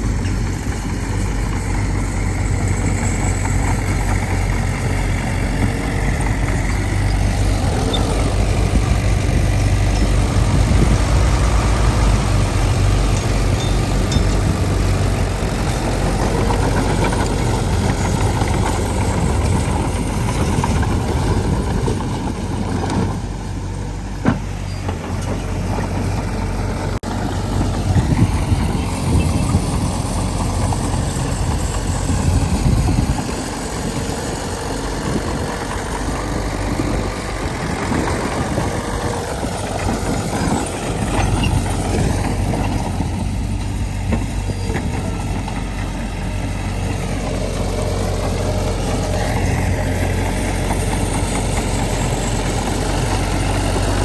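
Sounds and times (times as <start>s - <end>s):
diesel machinery engine rumble: 0.0s - 54.0s.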